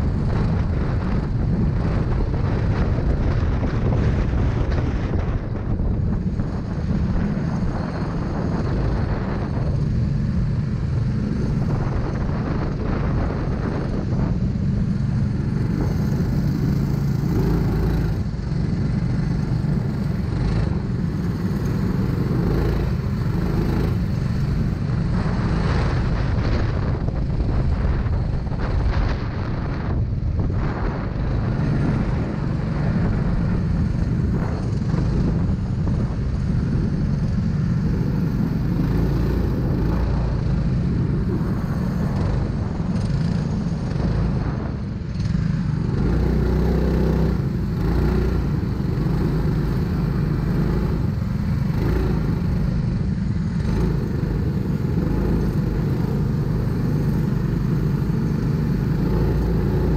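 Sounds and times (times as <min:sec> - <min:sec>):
kart engine running: 0:00.0 - 0:59.9
other kart engines: 0:00.0 - 0:59.9.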